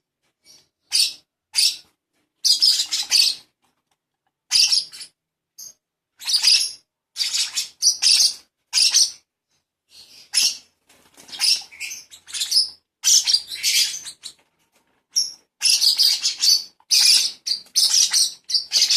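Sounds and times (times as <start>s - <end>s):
baby bird chirping: 0.4s - 3.5s, 4.5s - 9.3s, 9.9s - 14.4s, 15.1s - 18.9s.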